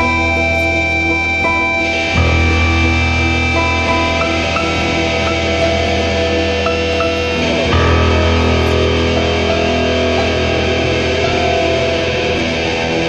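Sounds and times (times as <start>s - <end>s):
electric guitar chords: 0.0s - 13.0s
grand piano chords: 0.0s - 13.0s.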